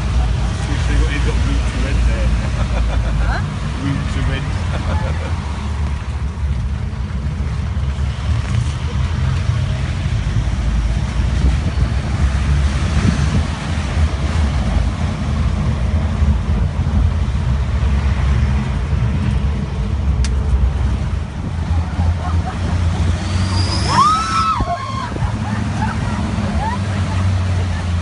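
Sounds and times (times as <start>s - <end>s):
pickup truck driving rumble: 0.0s - 28.0s.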